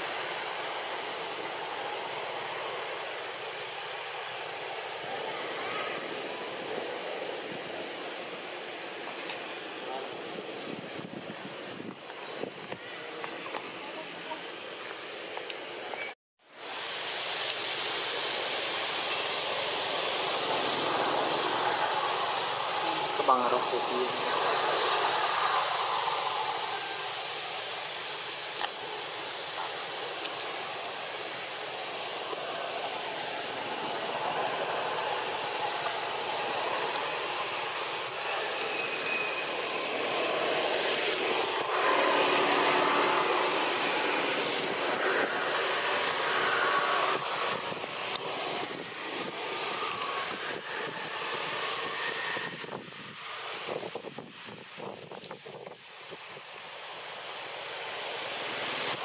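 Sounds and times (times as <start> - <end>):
steady outdoor hiss: 0.0 - 59.0.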